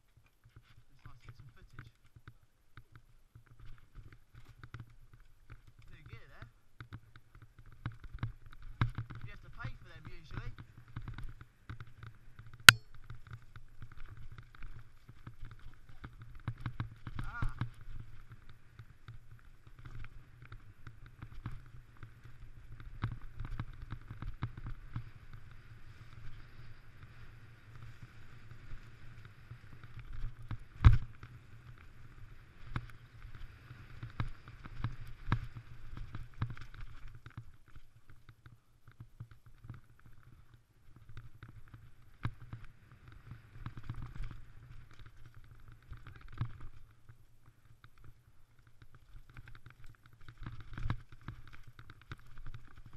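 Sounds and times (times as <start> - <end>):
tyres rumbling on dirt trail: 0.0 - 52.9
bike rattling: 0.2 - 52.9.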